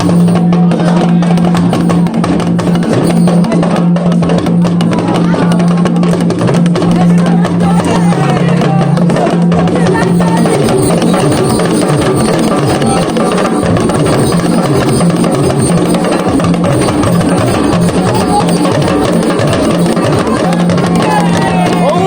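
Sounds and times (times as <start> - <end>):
music with drums and percussion: 0.0 - 22.0.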